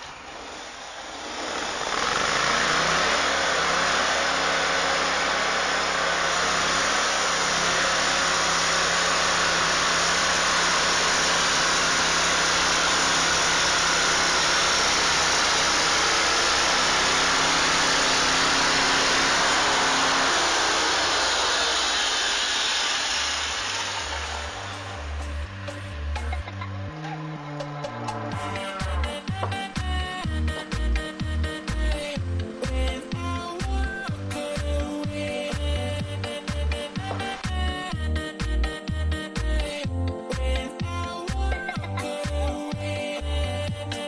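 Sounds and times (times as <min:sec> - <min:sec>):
sawmill engine running: 0:00.0 - 0:44.0.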